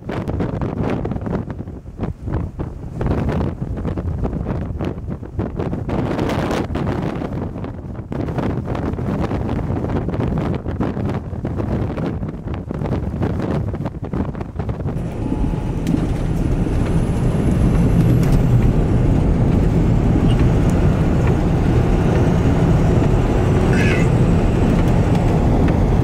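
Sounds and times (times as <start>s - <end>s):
car road and engine noise: 0.0s - 26.0s
wind gusts on microphone: 0.0s - 26.0s.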